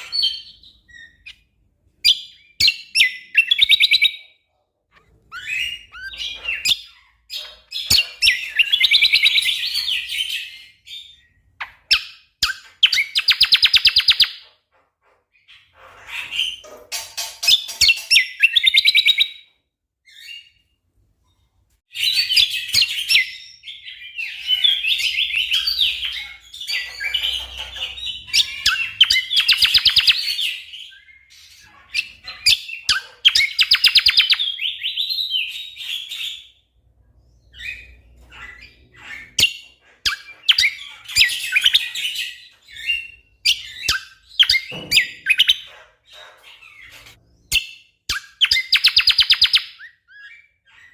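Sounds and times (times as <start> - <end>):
songbird chirping and trilling: 0.0 - 50.9.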